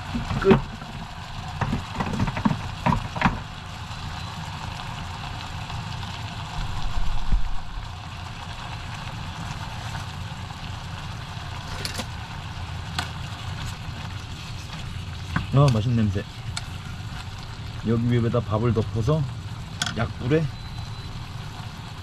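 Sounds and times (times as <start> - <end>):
gas burner rushing: 0.0 - 22.0
rice sizzling in a pan: 0.0 - 22.0.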